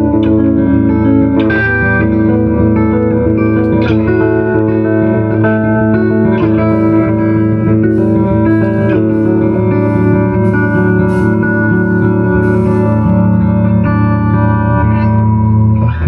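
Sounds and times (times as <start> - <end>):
electric guitar held notes: 0.0 - 16.0
steady bass line: 0.0 - 16.0.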